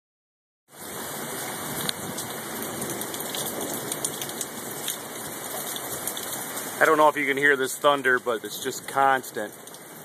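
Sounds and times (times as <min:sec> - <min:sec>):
torrential rain hissing: 0:00.8 - 0:10.0.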